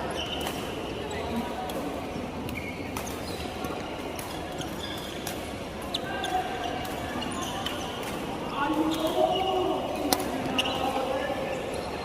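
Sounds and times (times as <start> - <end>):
murmur of voices: 0.0 - 12.0
shoes squeaking on court floor: 0.0 - 12.0.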